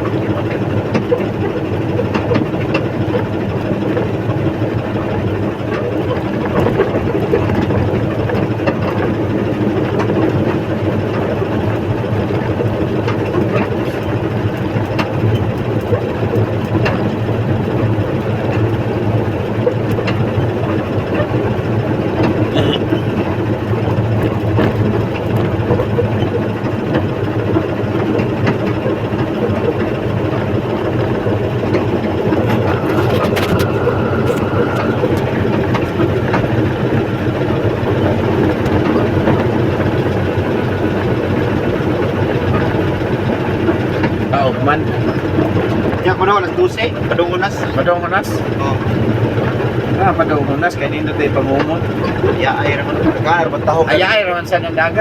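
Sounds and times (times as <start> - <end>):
heavy engine running: 0.0 - 55.0.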